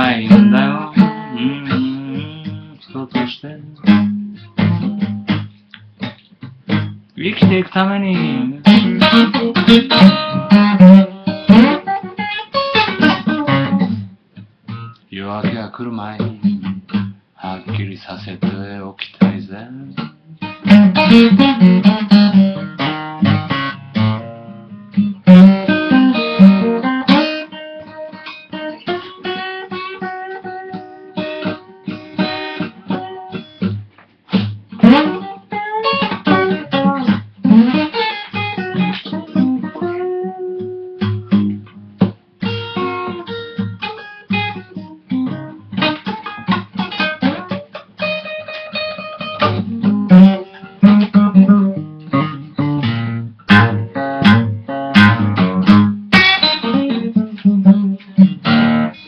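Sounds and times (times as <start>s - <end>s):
blues guitar playing: 0.0s - 59.0s.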